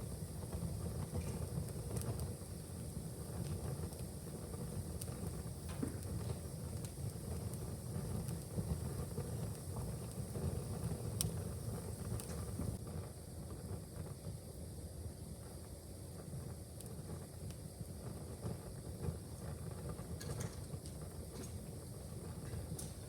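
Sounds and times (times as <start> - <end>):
wood fire crackling: 0.0 - 12.9, 15.2 - 23.0.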